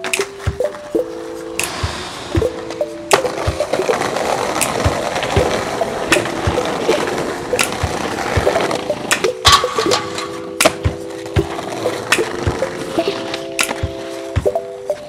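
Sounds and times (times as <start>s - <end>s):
skateboard wheels rolling on pavement: 0.0s - 9.2s, 10.0s - 15.0s
skateboard clicks and knocks: 0.0s - 15.0s.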